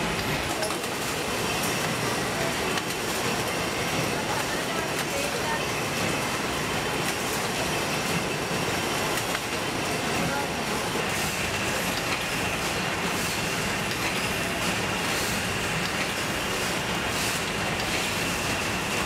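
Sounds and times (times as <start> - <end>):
machinery clattering: 0.0 - 19.0.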